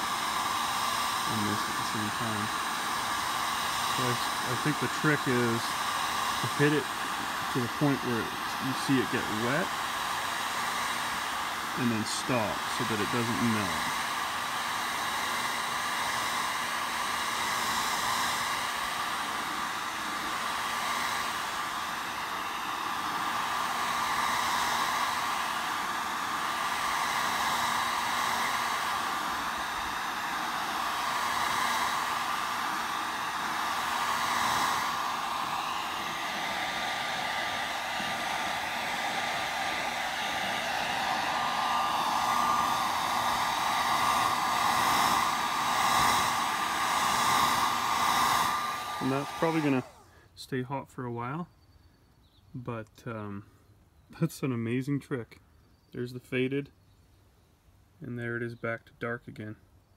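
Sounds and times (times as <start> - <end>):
heat gun blowing air: 0.0 - 50.4.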